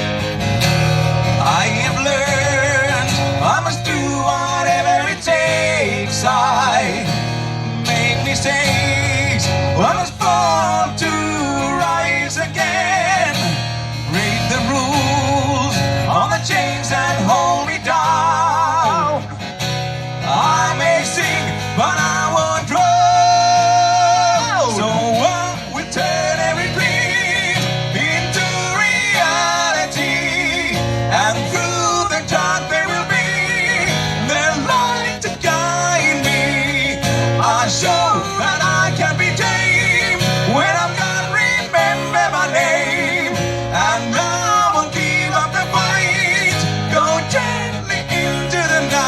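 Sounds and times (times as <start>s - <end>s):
acoustic guitar lead line: 0.0s - 49.0s
strummed guitar chords: 0.0s - 49.0s.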